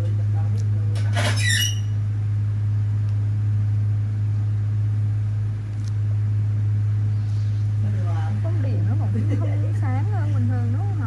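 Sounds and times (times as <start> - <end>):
low-pitched hum: 0.0 - 11.0.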